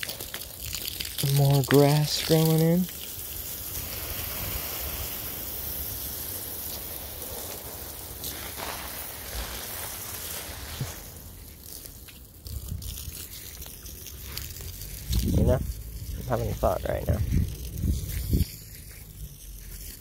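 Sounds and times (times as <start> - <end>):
water spraying hiss: 0.0 - 20.0.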